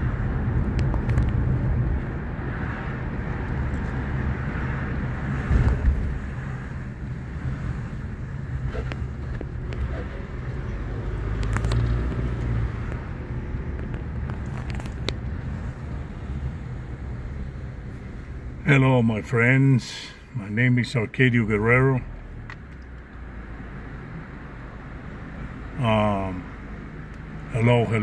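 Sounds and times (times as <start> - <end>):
engine and tyre rumble: 0.0 - 28.0.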